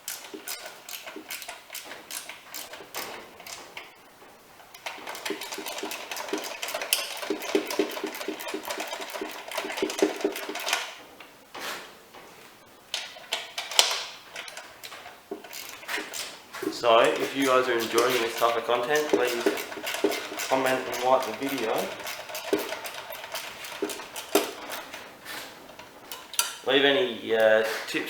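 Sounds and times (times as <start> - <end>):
metal hand tools clattering: 0.0 - 3.8, 4.7 - 11.0, 13.0 - 26.7
rapid regular clicks: 0.0 - 11.4, 12.8 - 26.6.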